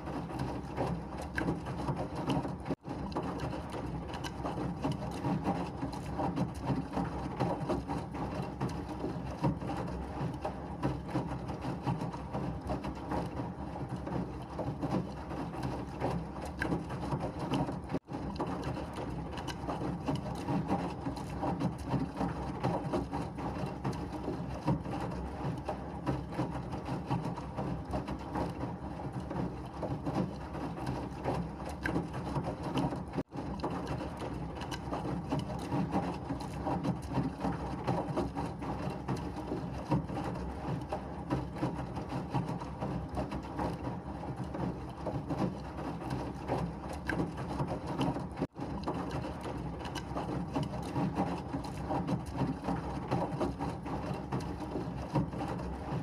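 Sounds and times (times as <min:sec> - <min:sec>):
washing machine churning and rattling: 0:00.0 - 0:56.0.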